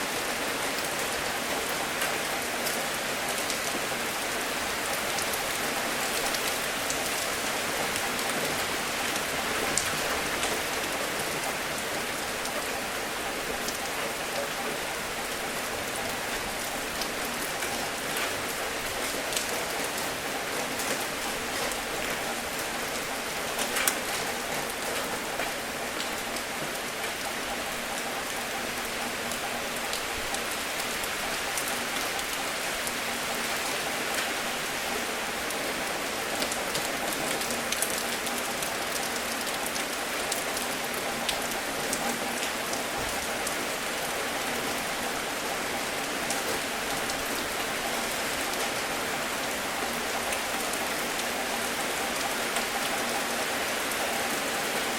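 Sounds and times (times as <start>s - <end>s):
gentle rain hiss: 0.0s - 54.9s
raindrops ticking on surface: 0.1s - 54.9s.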